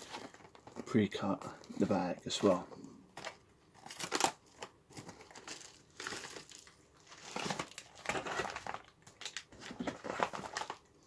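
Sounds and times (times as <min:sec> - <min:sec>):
plastic packaging crinkling: 0:00.0 - 0:02.6, 0:03.2 - 0:11.0.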